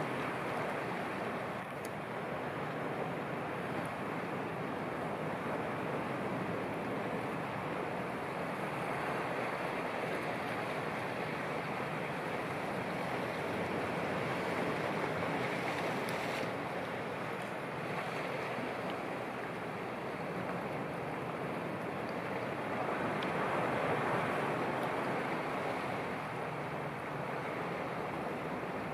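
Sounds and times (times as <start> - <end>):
sea waves washing: 0.0 - 28.9.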